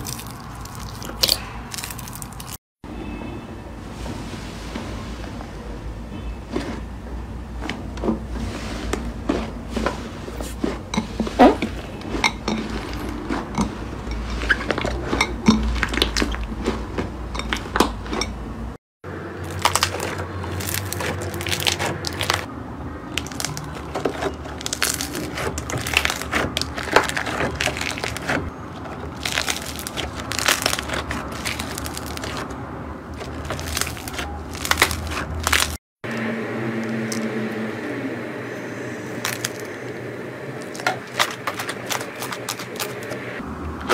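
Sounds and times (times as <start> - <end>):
slime squelching: 0.0 - 2.6, 6.2 - 18.4, 19.4 - 37.6, 39.0 - 40.0, 40.6 - 43.9.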